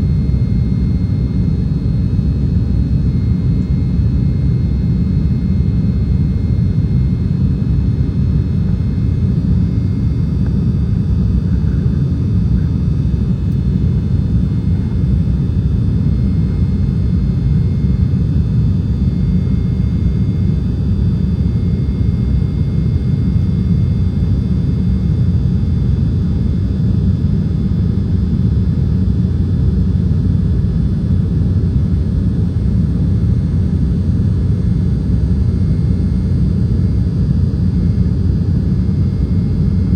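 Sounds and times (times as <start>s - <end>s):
faint high engine whine: 0.0s - 39.9s
jet cabin rumble: 0.0s - 39.9s.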